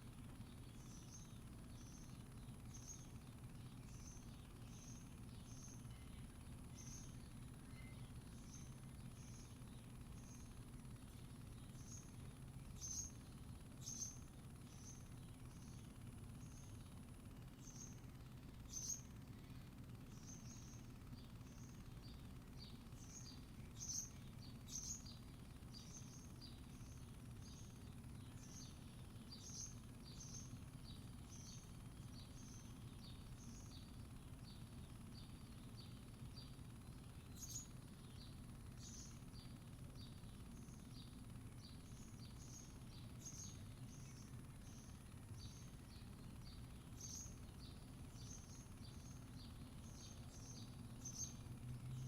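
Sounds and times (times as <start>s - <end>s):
low background hum: 0.0s - 52.0s
small bird chirping: 0.0s - 52.0s.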